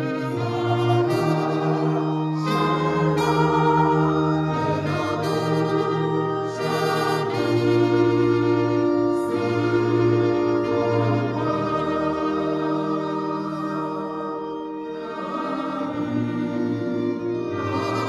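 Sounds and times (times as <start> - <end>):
choir singing a hymn: 0.0 - 18.0
instrumental accompaniment: 0.0 - 18.0.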